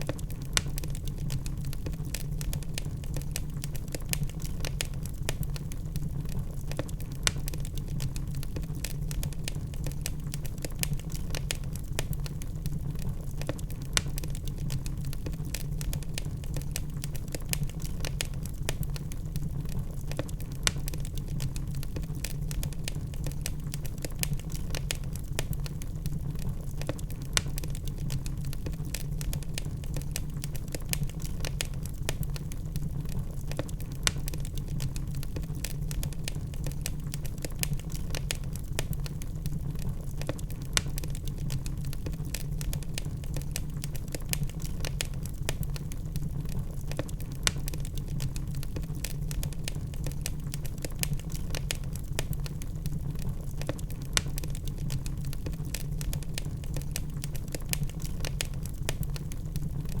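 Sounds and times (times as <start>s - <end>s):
log fire crackling: 0.0s - 60.0s.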